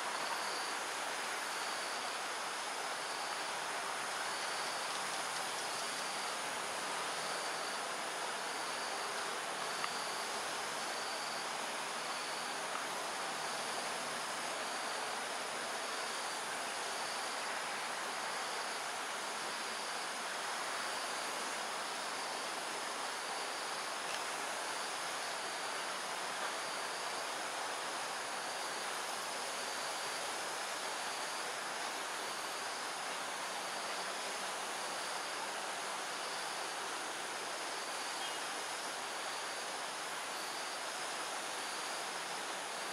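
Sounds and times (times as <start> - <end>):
pulsing insect chirp: 0.0 - 42.8
insects chirring: 0.0 - 42.9.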